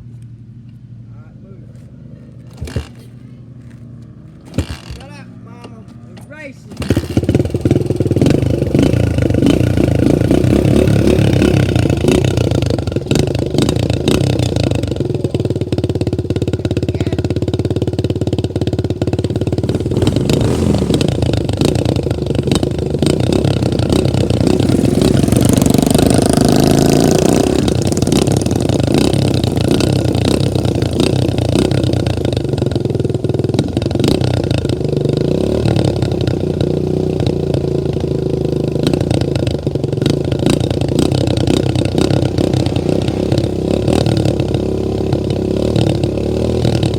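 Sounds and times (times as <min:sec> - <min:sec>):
dirt bike engine revving: 0:02.4 - 0:46.9.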